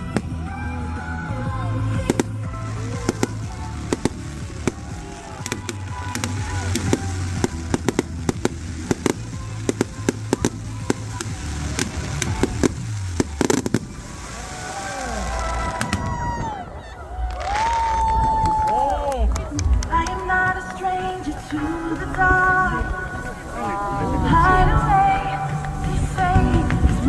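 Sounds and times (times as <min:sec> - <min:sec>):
background music: 0:00.0 - 0:16.6, 0:19.2 - 0:27.0
fireworks bangs and cracks: 0:00.0 - 0:27.0.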